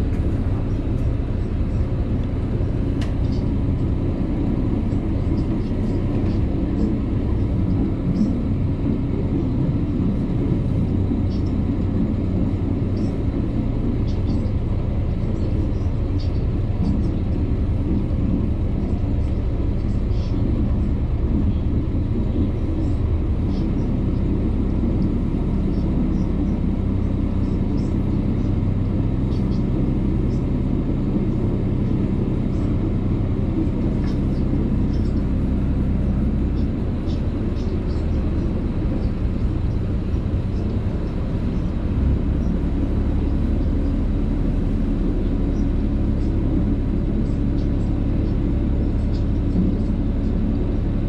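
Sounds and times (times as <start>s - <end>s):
boat engine rumbling: 0.0s - 51.0s.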